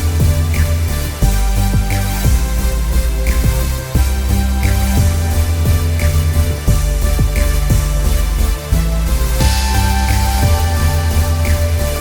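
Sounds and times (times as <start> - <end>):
bass drum strokes: 0.0 - 12.0
electronic music with steady beat: 0.0 - 12.0.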